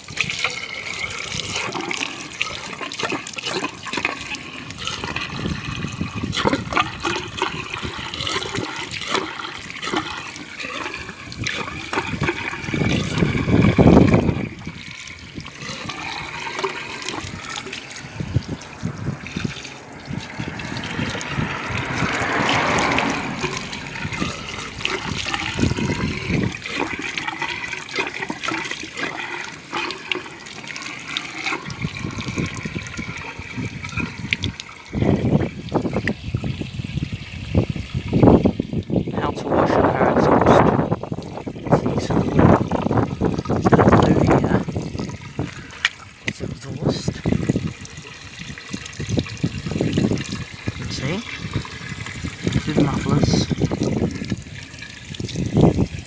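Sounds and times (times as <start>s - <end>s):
water splashing and churning: 0.0s - 56.0s.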